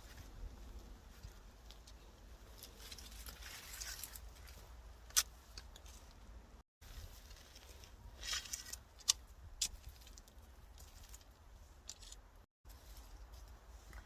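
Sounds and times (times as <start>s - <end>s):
digging in garden soil: 0.0s - 14.0s.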